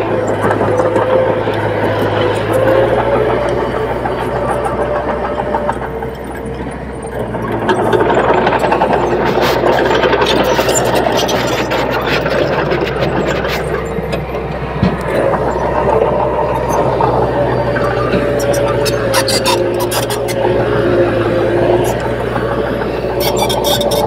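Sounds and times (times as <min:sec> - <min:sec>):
bulldozer diesel engine under load: 0:00.0 - 0:24.0.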